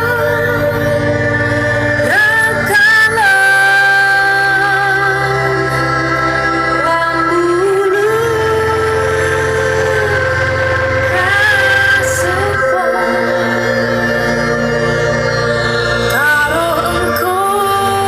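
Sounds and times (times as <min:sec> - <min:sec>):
loud music with heavy bass: 0:00.0 - 0:18.0.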